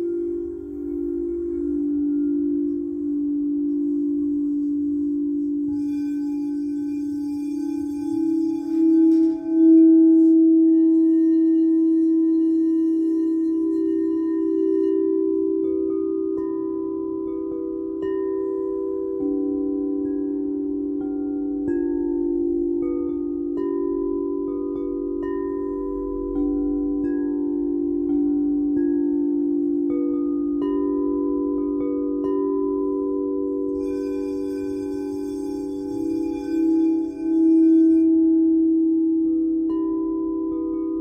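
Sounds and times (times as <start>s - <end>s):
high ringing overtones: 0.0s - 41.0s
singing bowls ringing drone: 0.0s - 41.0s.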